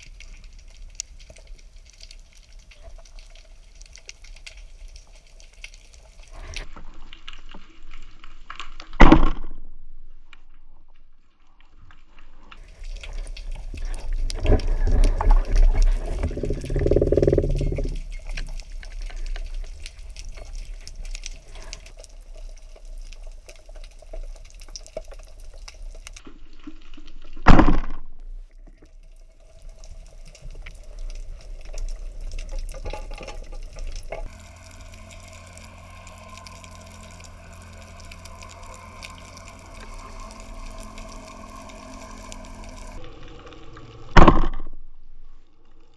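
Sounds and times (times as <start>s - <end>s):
water sloshing and bubbling: 0.0s - 45.9s.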